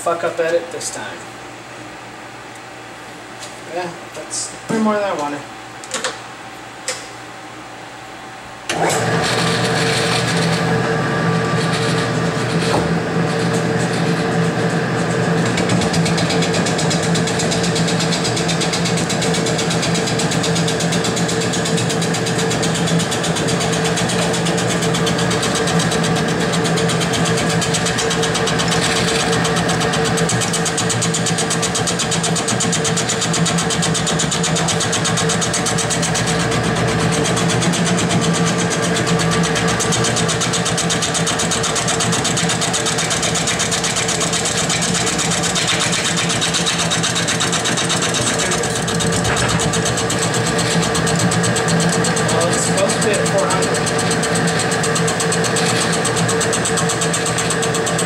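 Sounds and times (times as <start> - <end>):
mill-lathe running with ticking: 8.7 - 58.0.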